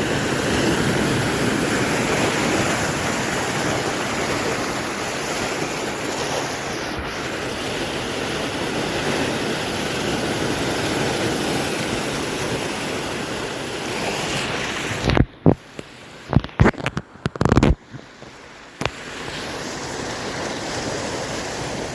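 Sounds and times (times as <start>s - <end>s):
surf breaking and washing: 0.0s - 21.9s.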